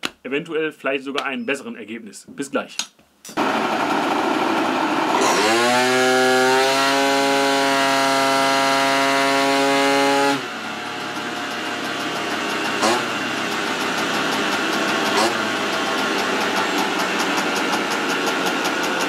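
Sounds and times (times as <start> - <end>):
dyno roller rushing: 3.4 - 19.0
scooter engine revving: 3.4 - 19.0.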